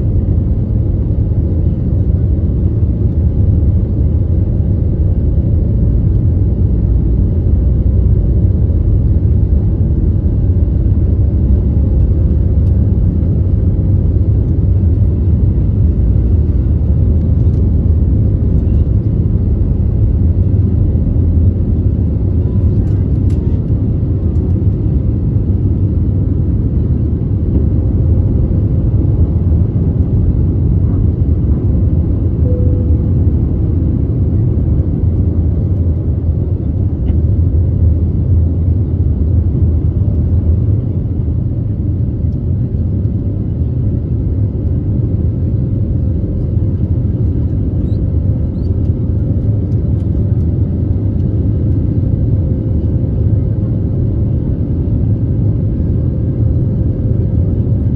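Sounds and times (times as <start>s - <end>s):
faint steady engine tone: 0.0s - 57.9s
jet engine low rumble: 0.0s - 57.9s.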